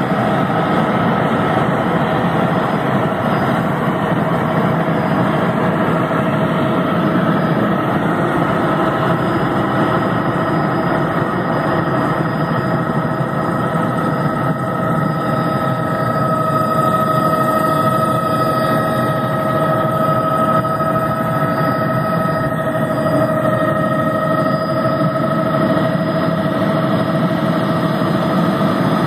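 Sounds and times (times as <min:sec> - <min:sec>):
constant whine: 0:00.0 - 0:29.0
helicopter engine and rotor drone: 0:00.0 - 0:29.0.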